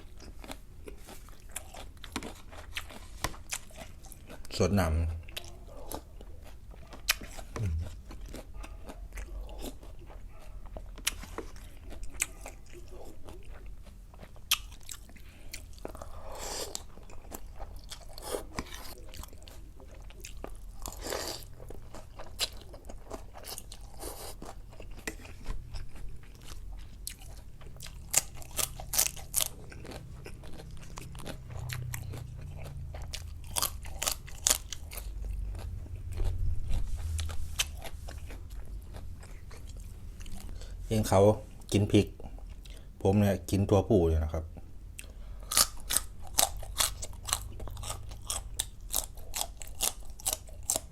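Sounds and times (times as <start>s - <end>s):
person crunching and chewing: 0.0s - 42.9s, 44.9s - 50.9s.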